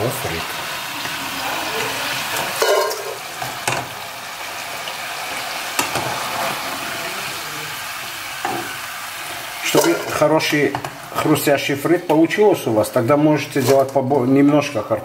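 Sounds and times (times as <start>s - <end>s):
fries sizzling in oil: 0.0s - 14.8s.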